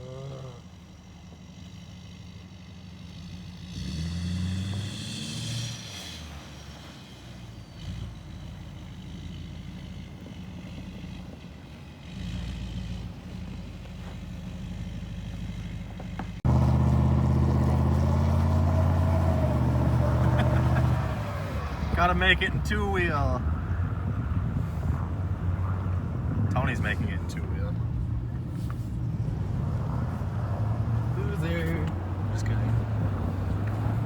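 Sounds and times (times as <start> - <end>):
truck engine revving under load: 0.0 - 34.0.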